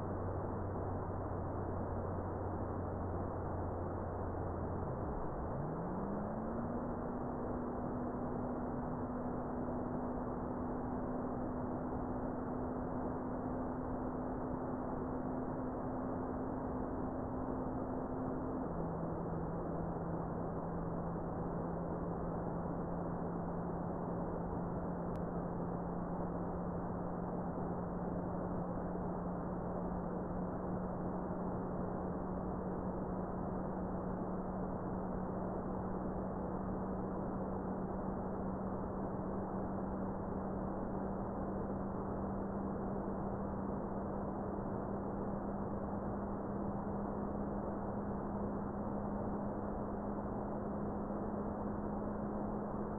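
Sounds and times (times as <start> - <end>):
low steady radio tone: 0.0 - 52.9.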